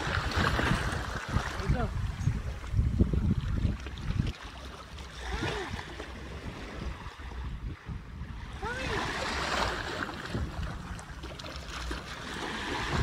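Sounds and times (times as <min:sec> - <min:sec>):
water lapping on sandy shore: 0:00.0 - 0:13.0
wind rumbling on microphone: 0:00.0 - 0:13.0.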